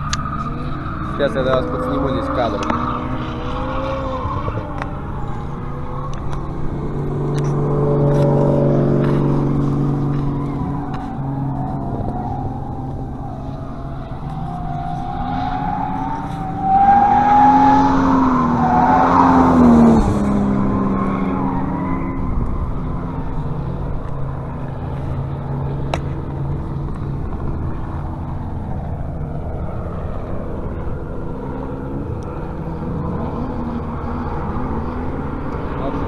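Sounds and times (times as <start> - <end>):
car engine revving: 0.0 - 36.0
engine rumble: 0.0 - 36.0.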